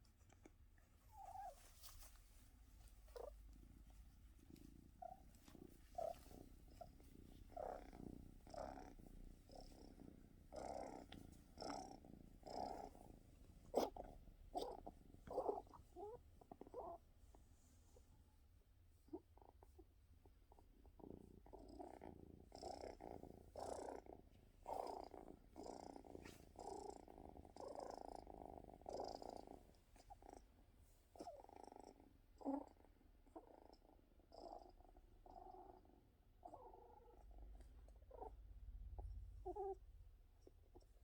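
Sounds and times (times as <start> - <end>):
cat purring: 0.0 - 41.0.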